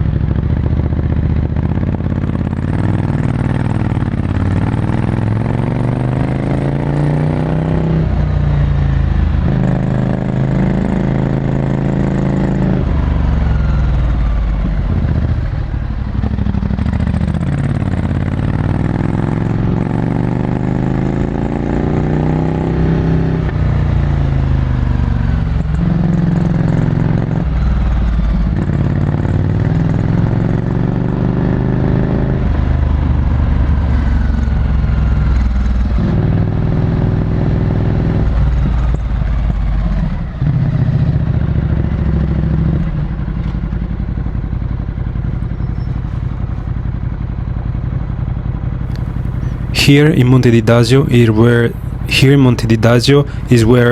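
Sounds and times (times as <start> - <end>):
motorcycle engine revving: 0.0 - 47.7, 48.8 - 53.9.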